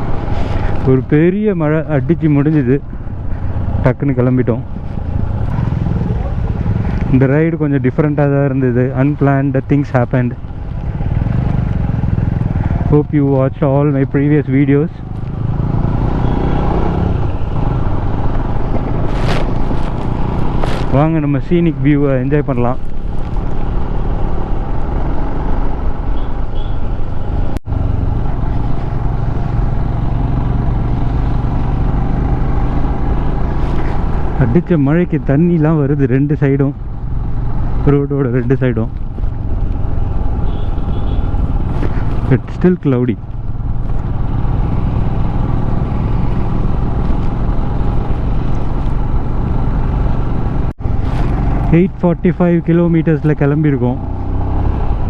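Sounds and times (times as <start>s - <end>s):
road noise: 0.0s - 55.0s
motorcycle engine running: 2.9s - 7.6s, 10.2s - 21.3s, 22.2s - 38.0s, 38.8s - 55.0s.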